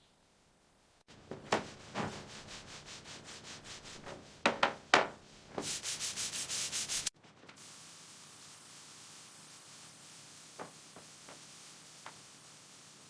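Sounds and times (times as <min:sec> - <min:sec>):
hand sanding strokes: 0:01.1 - 0:04.5, 0:05.5 - 0:12.8.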